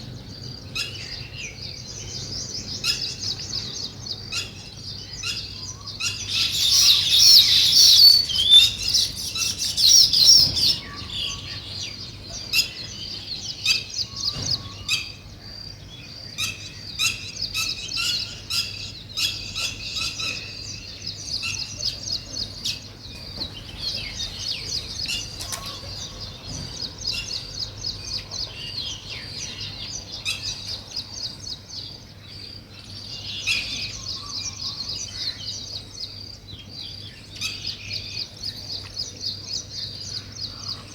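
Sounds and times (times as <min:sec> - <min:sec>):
birds chattering high chirps: 0:00.0 - 0:40.9.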